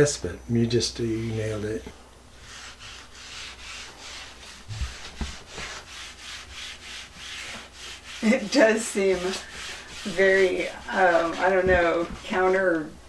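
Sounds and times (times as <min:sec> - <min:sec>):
rag wiping over wooden door: 0:02.4 - 0:13.0.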